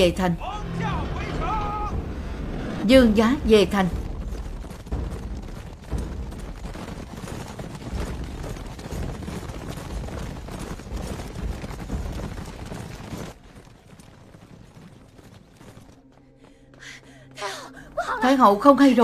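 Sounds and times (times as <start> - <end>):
hooves galloping on stone: 3.0 - 19.0.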